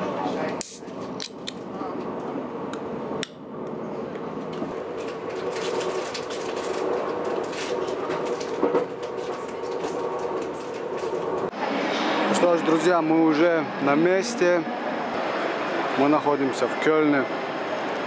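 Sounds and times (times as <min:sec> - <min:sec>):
train carriage running hum: 0:00.0 - 0:18.0.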